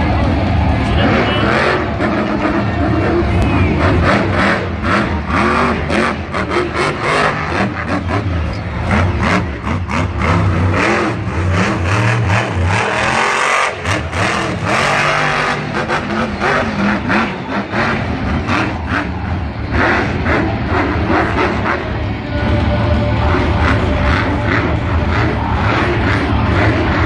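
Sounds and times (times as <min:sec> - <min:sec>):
truck engine revving hard: 0:00.0 - 0:27.0.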